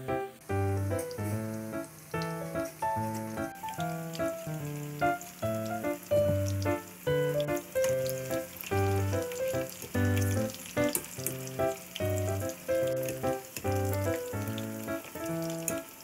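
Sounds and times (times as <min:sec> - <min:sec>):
peppers sizzling in oil: 0:00.4 - 0:16.0.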